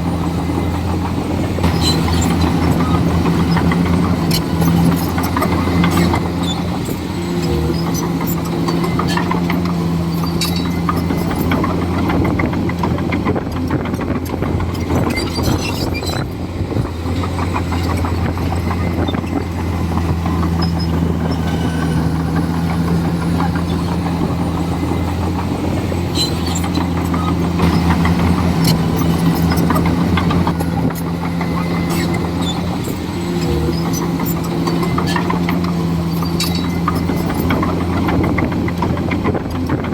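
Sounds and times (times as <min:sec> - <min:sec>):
bulldozer diesel engine: 0:00.0 - 0:39.9
clicks and clanks: 0:01.0 - 0:39.9.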